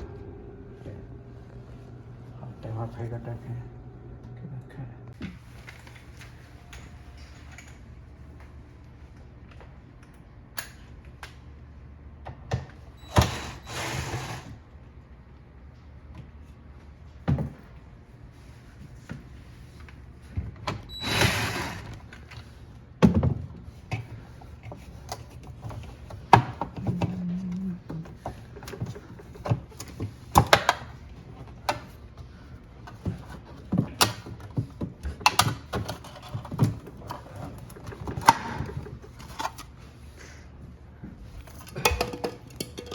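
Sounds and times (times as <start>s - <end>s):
low steady hum: 0.0s - 13.4s, 14.6s - 42.9s.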